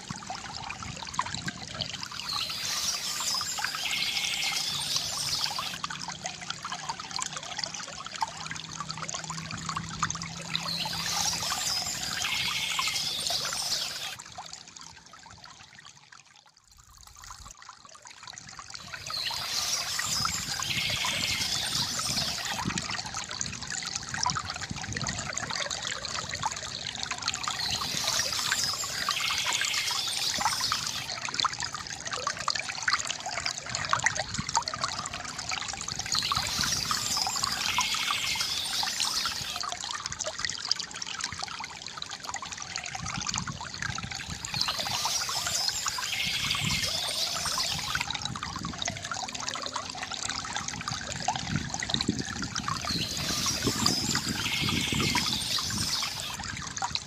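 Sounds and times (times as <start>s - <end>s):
water trickling from fountain: 0.0s - 57.0s.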